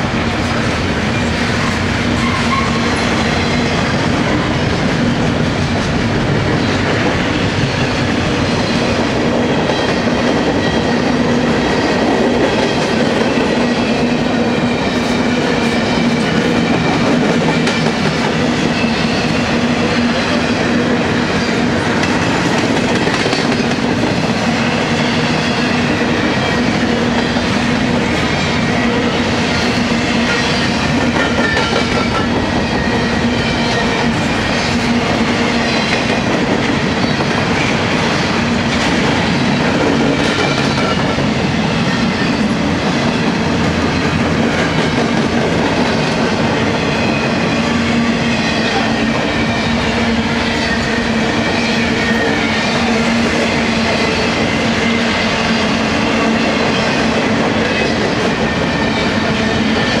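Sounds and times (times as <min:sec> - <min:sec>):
freight train wheels rumbling: 0:00.0 - 1:00.0.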